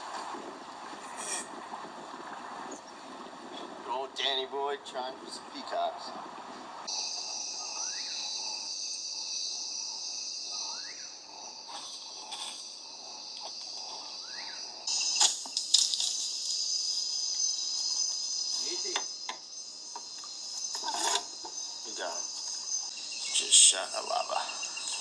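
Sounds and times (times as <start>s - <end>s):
insects buzzing and trilling: 3.8s - 6.2s, 6.8s - 25.0s.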